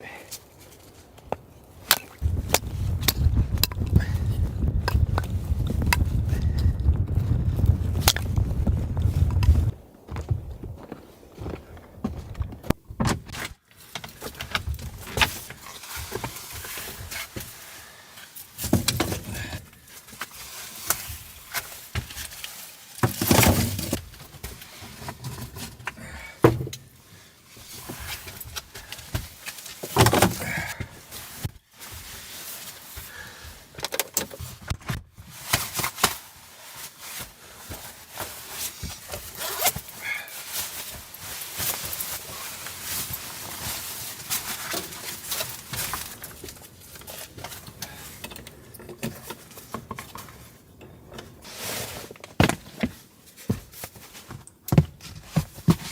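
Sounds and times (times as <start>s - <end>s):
rustling: 0.3s - 55.9s.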